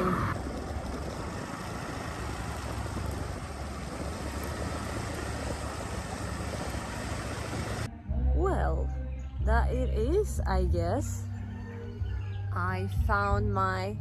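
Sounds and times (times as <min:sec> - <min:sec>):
low rumble: 0:00.0 - 0:11.4
wind and road noise: 0:00.0 - 0:14.0.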